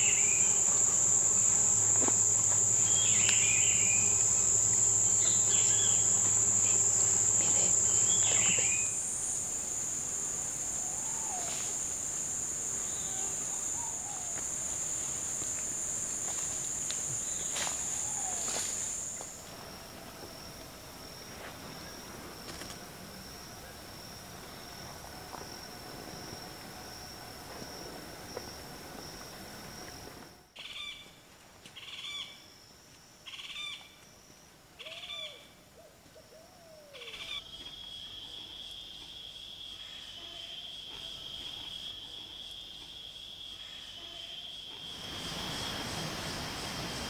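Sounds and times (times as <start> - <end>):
high-pitched insect drone: 0.0 - 30.9, 37.0 - 47.0.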